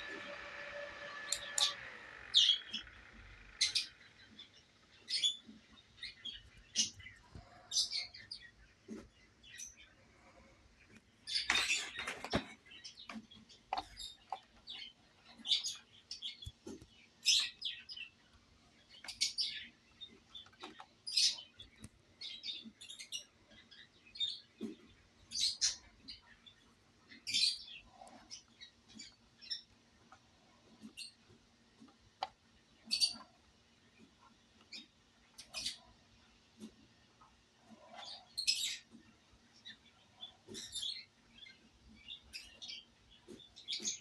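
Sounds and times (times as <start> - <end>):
faint steady hum: 0.0 - 43.9
small bird chirping: 0.0 - 44.0.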